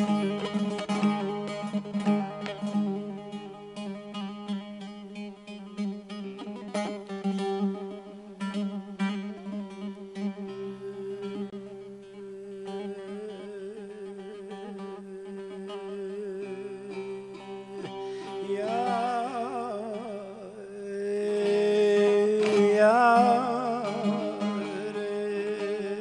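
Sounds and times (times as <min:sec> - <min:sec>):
person humming ornamented line: 0:00.0 - 0:26.0
plucked long-necked lute melody: 0:00.0 - 0:26.0.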